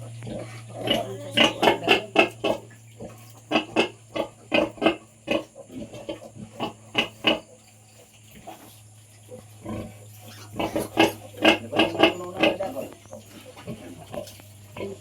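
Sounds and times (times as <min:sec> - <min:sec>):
pigs grunting: 0:00.0 - 0:07.6, 0:08.3 - 0:15.0
steady low hum: 0:00.0 - 0:15.0.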